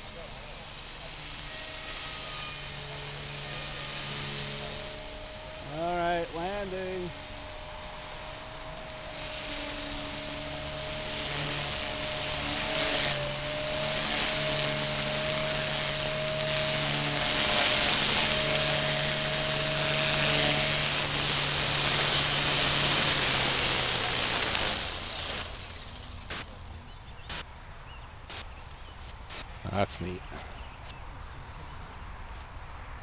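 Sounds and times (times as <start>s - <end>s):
model helicopter rotor whine: 0.0s - 27.4s.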